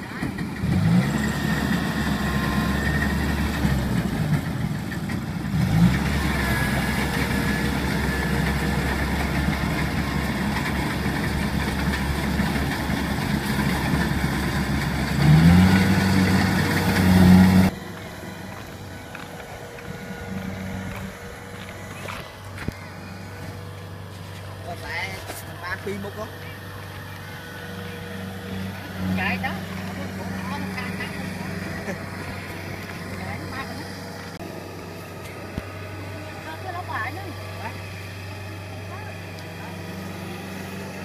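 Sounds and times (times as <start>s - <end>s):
diesel engine revving: 0.0s - 41.0s
distant engine: 0.0s - 41.0s.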